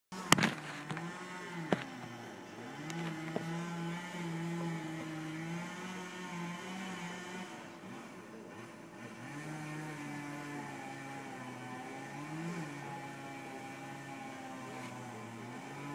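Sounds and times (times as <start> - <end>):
chainsaw cutting wood: 0.2 - 15.9.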